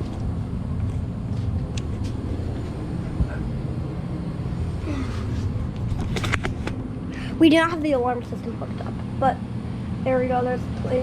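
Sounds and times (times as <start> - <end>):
air conditioning blower humming: 0.0 - 11.0.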